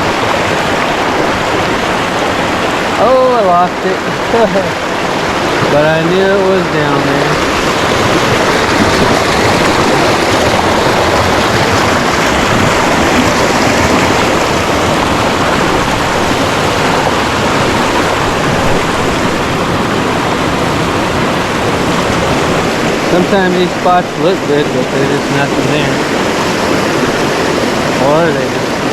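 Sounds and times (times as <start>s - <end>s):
creek water rushing: 0.0s - 28.9s.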